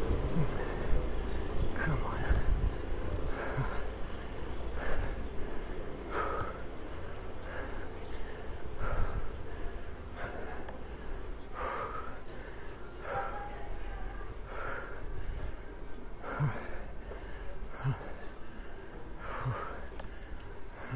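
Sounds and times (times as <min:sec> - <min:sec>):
heavy laboured breathing: 0:00.0 - 0:20.9
steady low rumble: 0:00.0 - 0:20.9.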